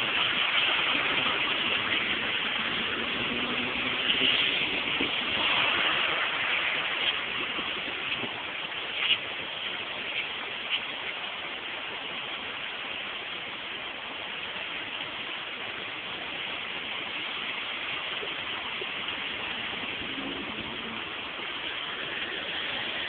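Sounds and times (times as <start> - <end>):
heavy rain on flooded ground: 0.0 - 23.0.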